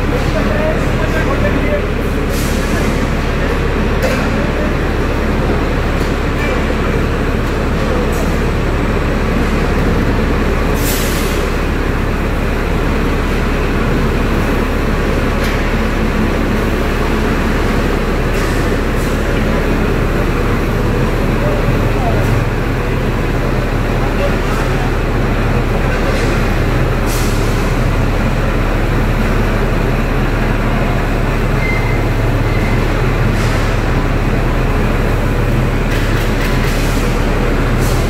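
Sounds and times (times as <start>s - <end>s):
crane hoist running: 0.0s - 38.0s
machinery din with low hum: 0.0s - 38.0s.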